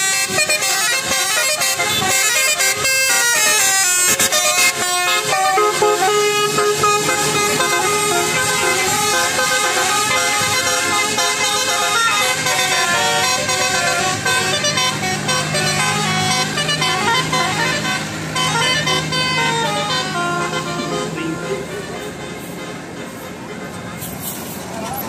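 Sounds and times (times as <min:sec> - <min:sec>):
multi-tone musical bus horn: 0:00.0 - 0:24.5.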